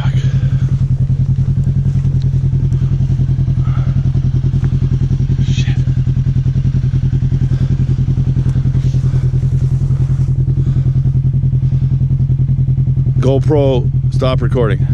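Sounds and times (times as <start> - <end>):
utility vehicle engine idling: 0.0 - 14.9.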